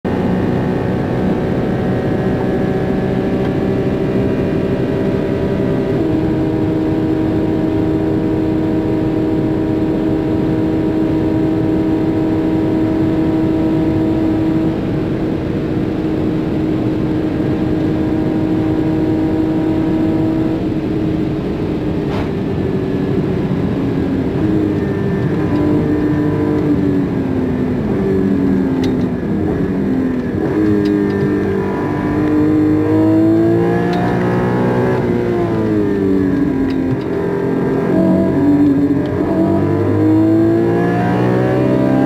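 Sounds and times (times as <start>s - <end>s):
car engine at full speed: 0.0s - 42.0s
wind and tyre noise: 0.1s - 42.0s.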